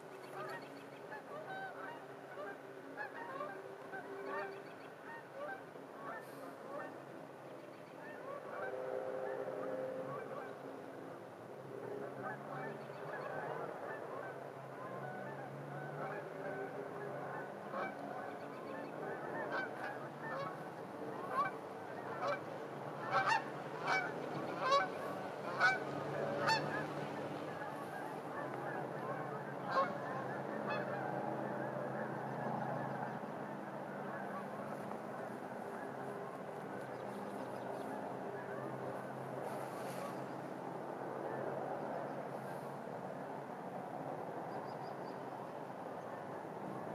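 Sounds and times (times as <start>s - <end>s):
geese honking: 0.0s - 7.0s, 8.0s - 10.8s, 11.8s - 40.2s
distant traffic hum: 0.0s - 46.9s.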